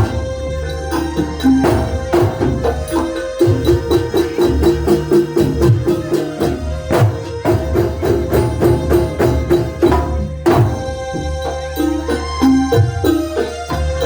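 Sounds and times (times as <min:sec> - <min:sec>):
frame drums and percussion: 0:00.0 - 0:14.0.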